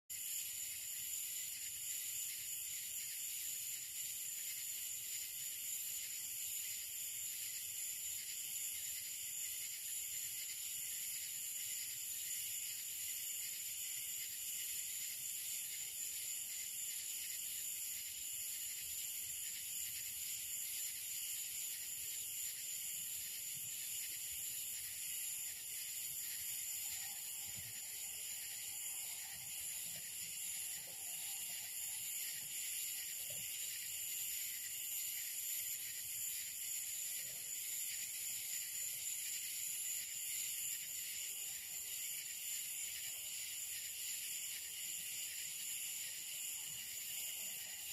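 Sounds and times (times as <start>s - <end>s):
night insects chorus: 0.1s - 47.9s.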